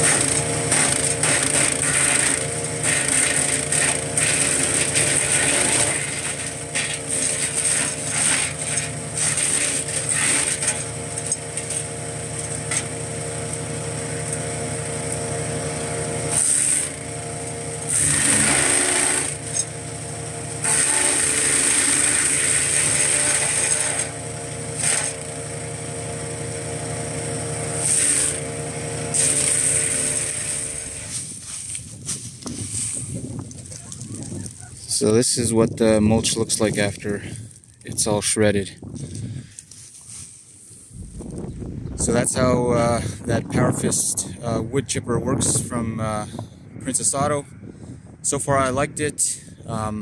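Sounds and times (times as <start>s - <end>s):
branches being shredded: 0.0s - 35.1s, 36.1s - 38.2s, 38.8s - 42.1s
wood chipper engine running: 0.0s - 50.0s.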